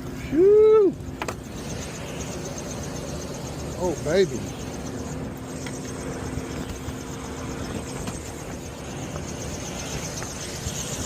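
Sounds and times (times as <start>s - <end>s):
hvac unit whirring: 0.0s - 11.0s
low hum: 0.0s - 11.0s.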